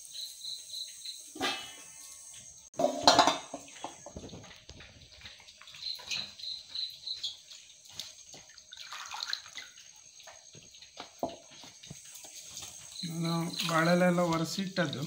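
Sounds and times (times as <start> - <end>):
water dripping: 0.0 - 15.0
water splashing in a bowl: 0.0 - 15.0.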